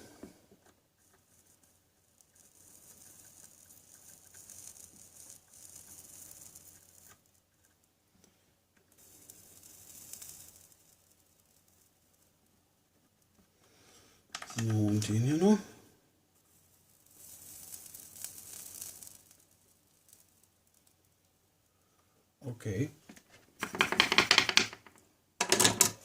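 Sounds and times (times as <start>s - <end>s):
soldering flux sizzling: 0.0s - 15.6s, 16.3s - 22.0s.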